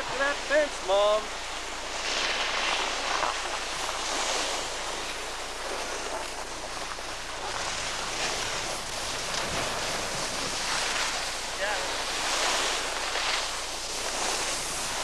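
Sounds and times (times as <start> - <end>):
skis scraping over snow: 0.0 - 15.0
wind noise on microphone: 0.0 - 15.0.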